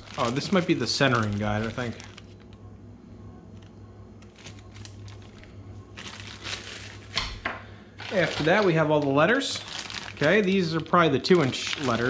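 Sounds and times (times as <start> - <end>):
plastic packaging rustling: 0.0 - 2.6, 3.6 - 7.2, 8.0 - 12.0
steady low hum: 0.0 - 12.0.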